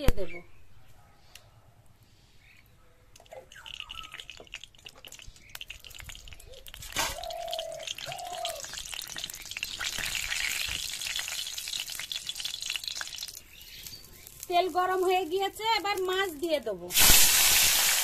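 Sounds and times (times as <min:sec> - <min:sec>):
oil crackling and sizzling: 0:03.2 - 0:18.0.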